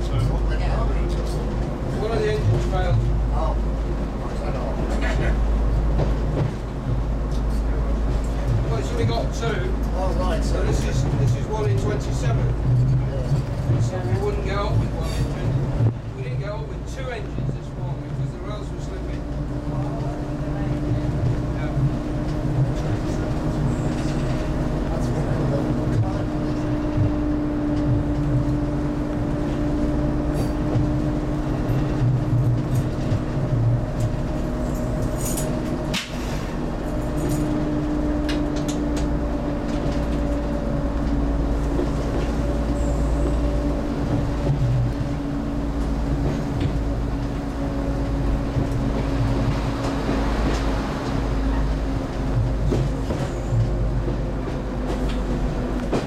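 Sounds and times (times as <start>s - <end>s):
diesel engine drone: 0.0s - 56.0s
wheel and rail rumble: 0.0s - 56.0s.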